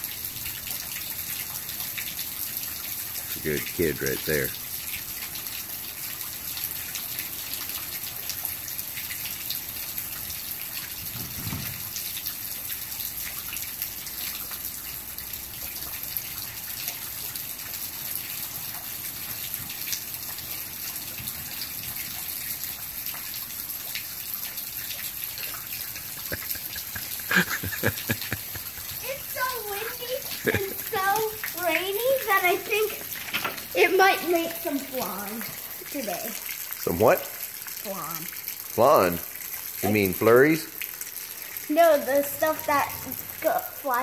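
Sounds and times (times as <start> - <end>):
rain hiss: 0.0 - 44.0
raindrops ticking: 0.0 - 44.0.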